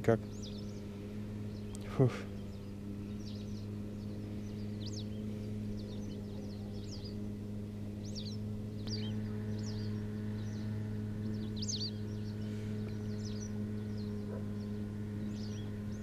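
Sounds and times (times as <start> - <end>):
steady low hum: 0.0 - 16.0
small bird chirping: 0.1 - 7.3, 8.0 - 16.0.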